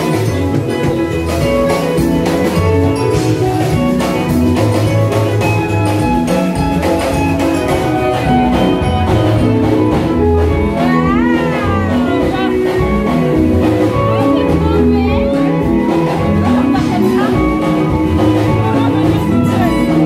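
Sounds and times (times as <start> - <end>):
music with steady drum beat: 0.0 - 20.0.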